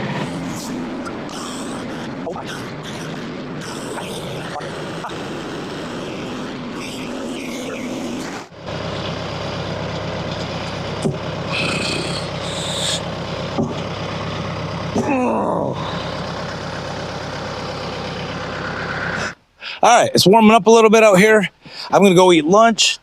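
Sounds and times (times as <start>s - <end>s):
gas engine running: 0.0s - 19.4s
short falling whine: 0.0s - 19.4s.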